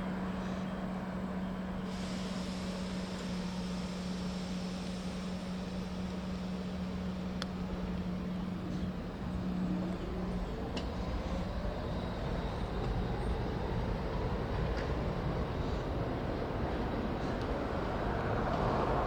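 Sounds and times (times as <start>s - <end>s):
wheels rumbling on rail: 0.0s - 19.0s
train motor whine rising: 0.2s - 15.6s.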